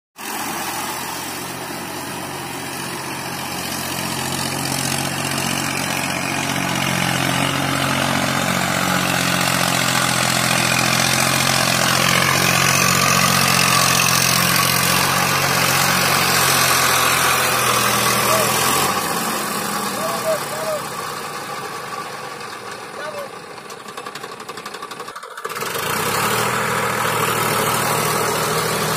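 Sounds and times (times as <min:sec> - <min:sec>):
tractor engine running: 0:00.2 - 0:28.9.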